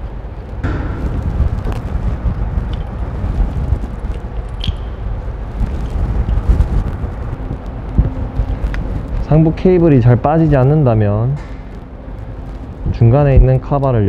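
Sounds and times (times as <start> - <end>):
low uneven rumble: 0.0 - 13.7.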